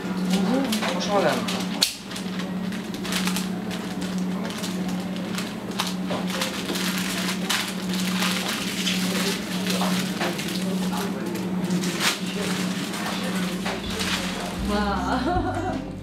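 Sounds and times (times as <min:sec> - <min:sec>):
steady low hum: 0:00.0 - 0:16.0
paper crinkling and rustling: 0:00.3 - 0:14.7.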